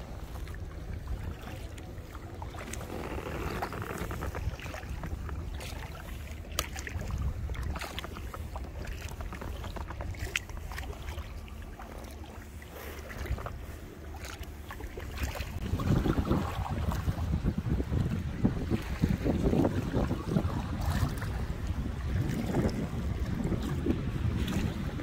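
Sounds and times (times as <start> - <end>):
kayak paddles dipping into water: 0.0 - 25.0
water splashes and drips: 0.0 - 25.0
wind rumbling on microphone: 0.0 - 25.0.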